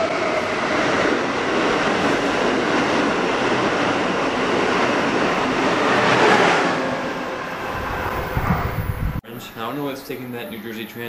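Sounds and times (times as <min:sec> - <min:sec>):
train wheels rushing on rails: 0:00.0 - 0:09.2.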